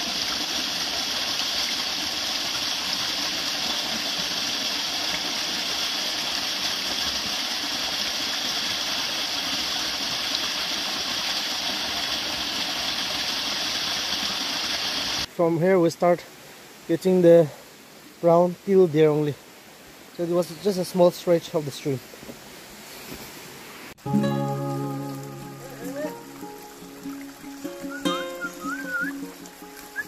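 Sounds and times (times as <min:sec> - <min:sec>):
stream running over ledge: 0:00.0 - 0:30.0.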